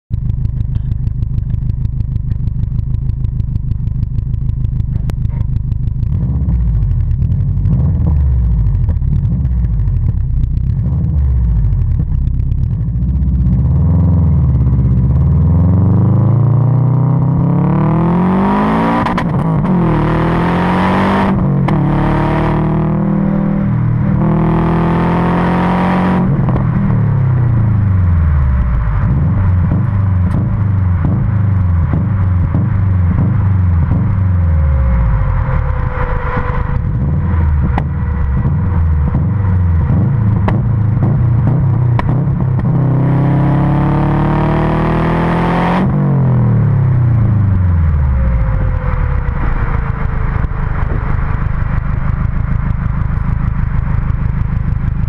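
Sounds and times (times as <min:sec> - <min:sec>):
car engine accelerating through gears: 0:00.4 - 0:55.0.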